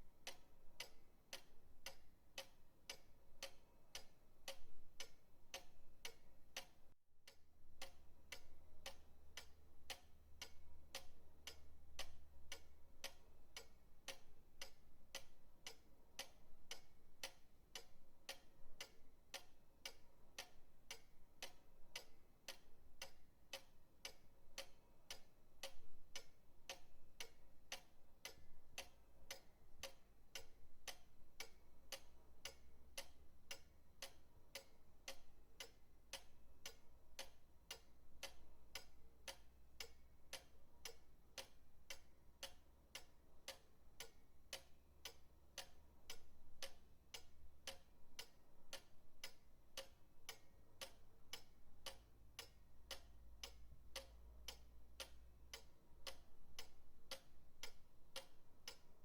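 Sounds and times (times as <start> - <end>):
pendulum clock ticking: 0.0 - 59.0.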